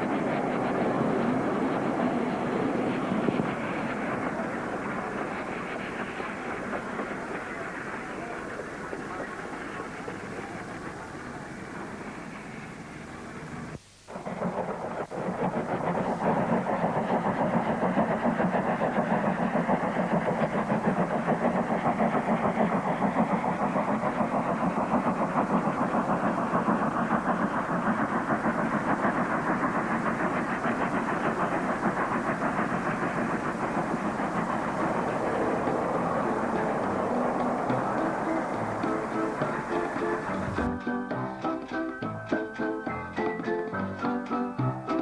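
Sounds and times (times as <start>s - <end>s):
steam locomotive exhaust beating: 0.0s - 45.0s
train rumble: 0.0s - 45.0s.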